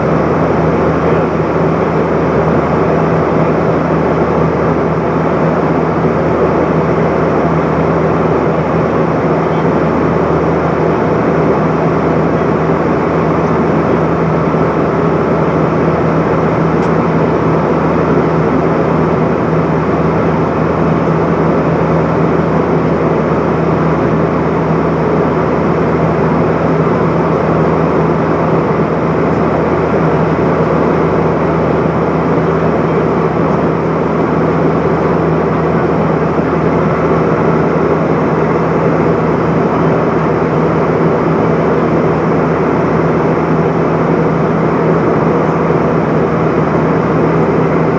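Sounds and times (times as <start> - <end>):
constant low drone: 0.0 - 47.9.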